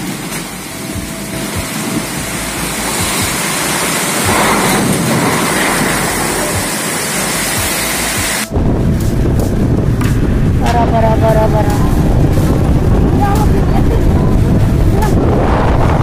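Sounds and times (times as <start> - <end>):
low thumps: 0.0 - 6.8, 7.4 - 16.0
heavy rain in strong wind: 0.0 - 16.0.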